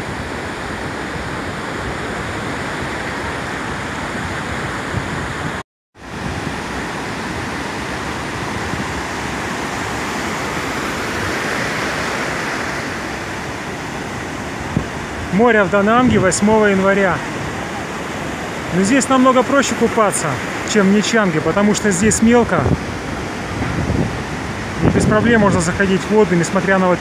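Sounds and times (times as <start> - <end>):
waves breaking on a beach: 0.0 - 27.0.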